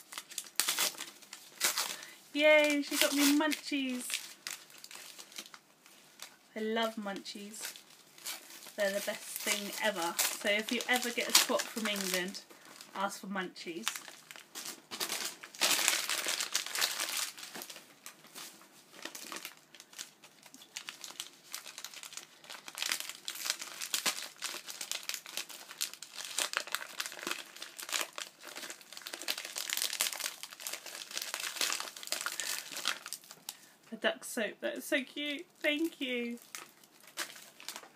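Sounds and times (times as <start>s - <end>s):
wrapping paper crinkling: 0.0s - 33.7s, 35.6s - 37.9s.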